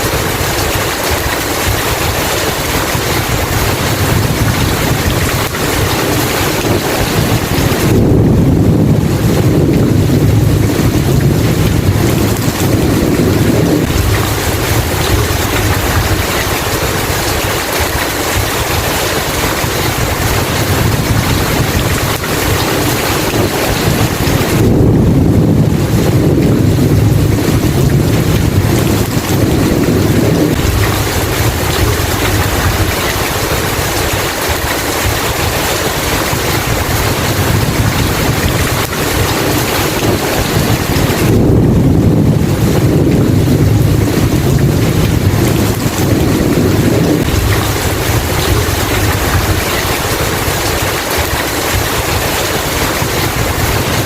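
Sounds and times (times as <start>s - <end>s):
heavy rain: 0.0s - 54.0s
rolling thunder: 0.0s - 54.0s.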